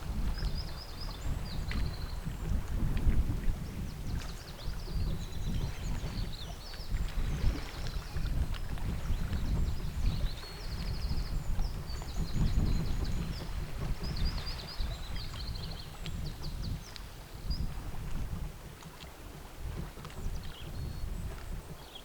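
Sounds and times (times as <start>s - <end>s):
rumble of wind and water: 0.0s - 22.0s.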